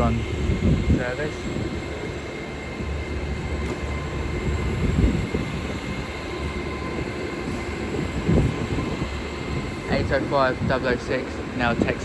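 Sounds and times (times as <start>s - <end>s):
train low hum: 0.0s - 12.0s.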